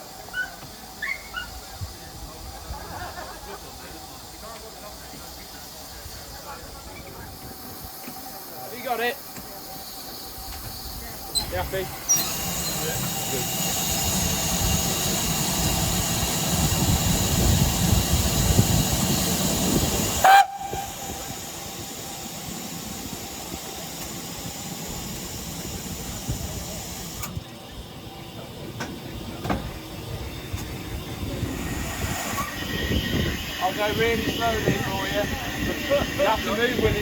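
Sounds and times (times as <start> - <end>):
steam hissing from locomotive: 0.0 - 37.0.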